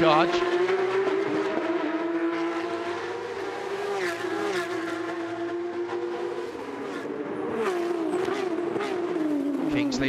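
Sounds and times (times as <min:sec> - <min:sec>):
race car engine running hard: 0:00.0 - 0:10.0.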